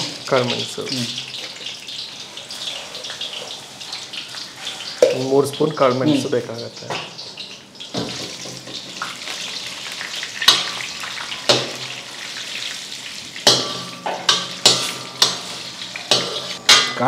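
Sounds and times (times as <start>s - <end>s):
spices sizzling in oil: 0.0s - 17.0s.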